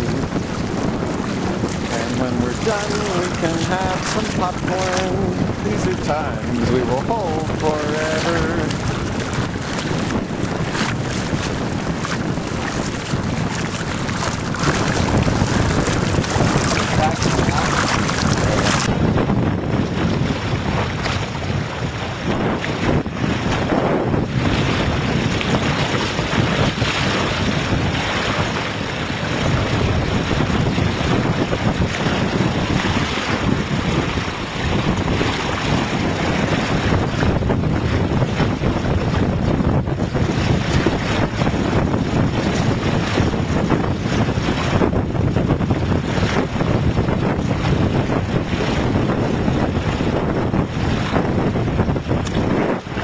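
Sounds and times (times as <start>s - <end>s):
water rushing along hull: 0.0s - 53.0s
wind buffeting microphone: 0.0s - 53.0s.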